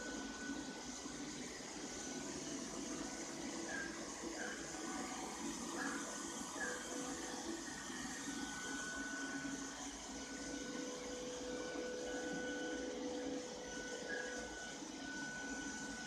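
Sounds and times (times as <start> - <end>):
robot vacuum cleaner whirring: 0.0 - 16.0.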